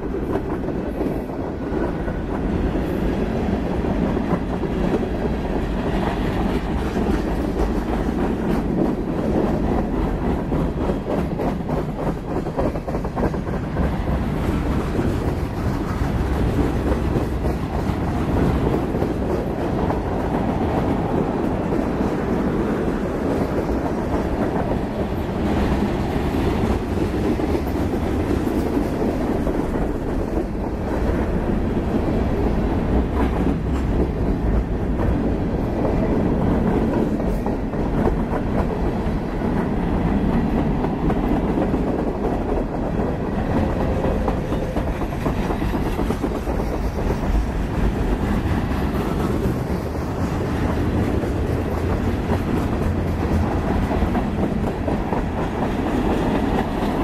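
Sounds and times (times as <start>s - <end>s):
freight train rolling past: 0.0s - 57.0s
steel wheels clattering on rails: 0.0s - 57.0s.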